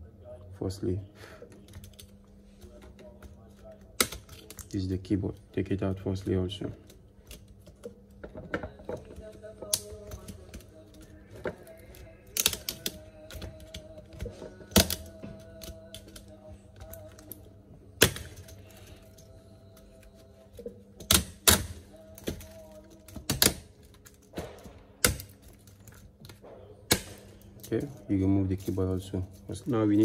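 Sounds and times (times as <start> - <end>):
plastic clips snapping: 2.8 - 4.8, 6.6 - 28.8.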